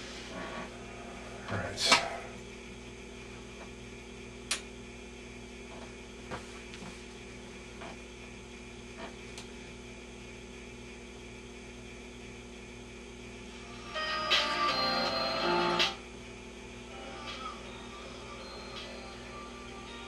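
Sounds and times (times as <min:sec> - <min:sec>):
television mains hum: 0:00.0 - 0:20.0.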